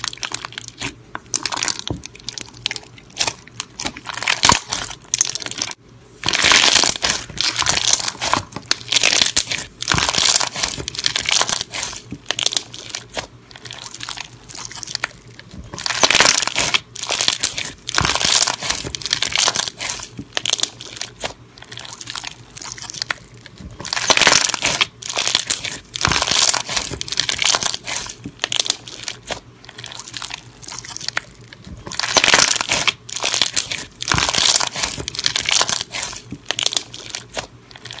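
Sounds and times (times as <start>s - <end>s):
crunchy slime crackling: 0.0s - 38.0s.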